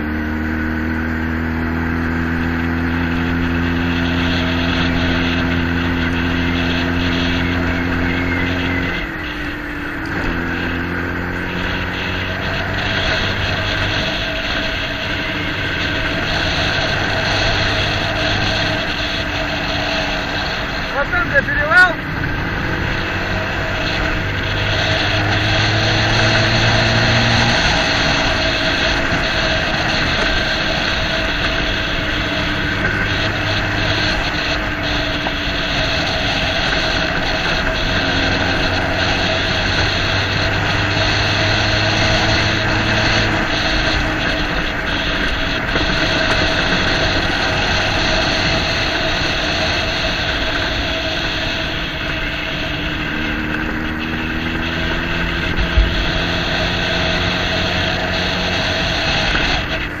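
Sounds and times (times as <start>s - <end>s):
road and wind noise: 0.0s - 60.0s
vehicle engine running: 0.0s - 60.0s.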